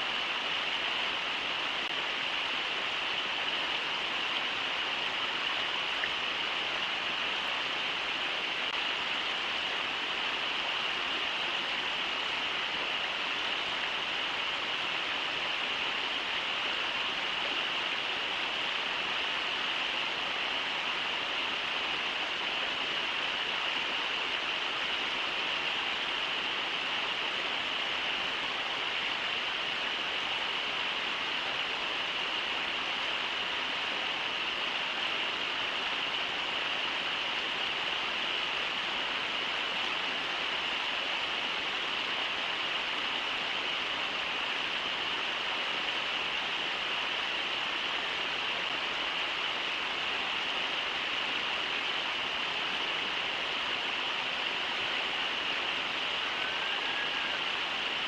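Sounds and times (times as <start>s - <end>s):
river rushing over riffles: 0.0s - 58.0s.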